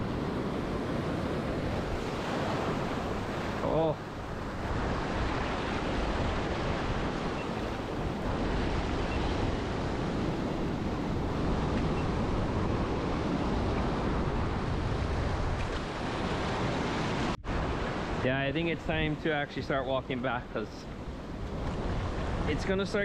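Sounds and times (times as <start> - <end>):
wind noise on microphone: 0.0 - 18.3, 20.9 - 22.6
ocean surf washing on rocks: 0.0 - 23.0.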